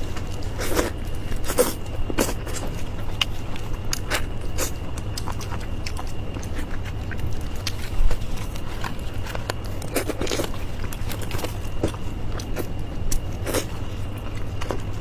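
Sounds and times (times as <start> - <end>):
biting and chewing chicken: 0.0 - 15.0
crunching crackles: 0.0 - 15.0
steady low hum: 0.0 - 15.0.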